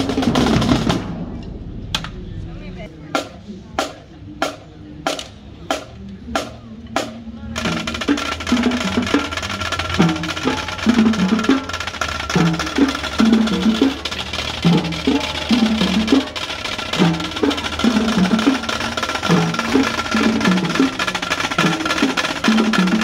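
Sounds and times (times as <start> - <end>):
marching snare drums: 0.0 - 1.4, 3.2 - 23.0.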